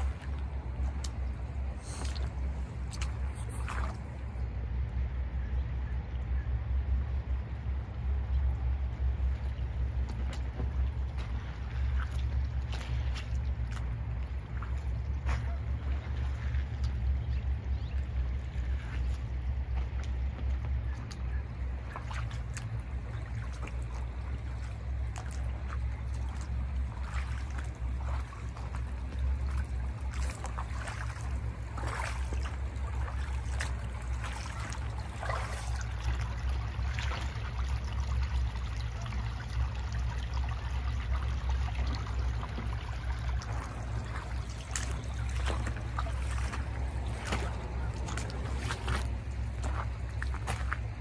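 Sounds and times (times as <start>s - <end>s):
water trickling: 0.0s - 5.0s, 6.0s - 51.0s
low rumble: 0.0s - 51.0s.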